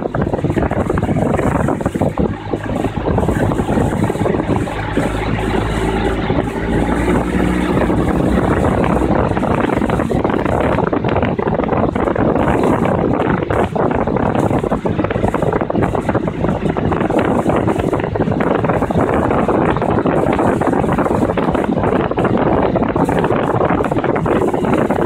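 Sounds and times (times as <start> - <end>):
motorboat engine running: 0.0 - 25.0
wind buffeting microphone: 0.0 - 25.0.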